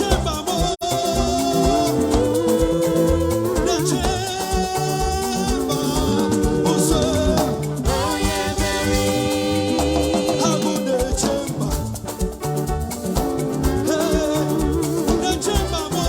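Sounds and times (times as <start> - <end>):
band with bass and percussion: 0.0 - 16.0
gospel singing: 0.0 - 16.0.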